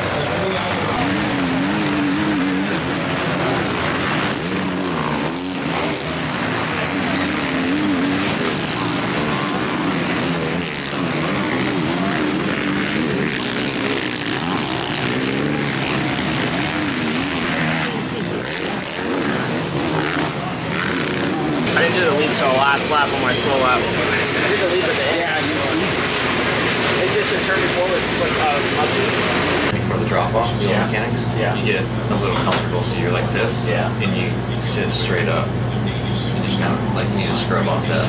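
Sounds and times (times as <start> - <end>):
motocross bikes revving: 0.0 - 38.0.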